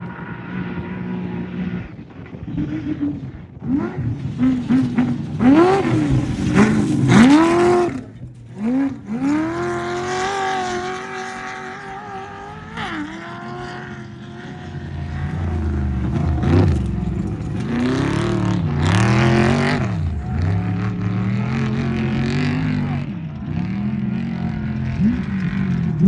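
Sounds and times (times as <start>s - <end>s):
truck engine revving hard: 0.0s - 26.0s.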